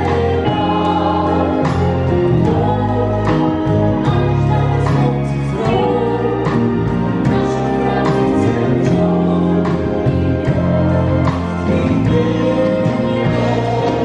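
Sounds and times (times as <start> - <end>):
group singing over a pa: 0.0 - 14.0
keyboard accompaniment: 0.0 - 14.0.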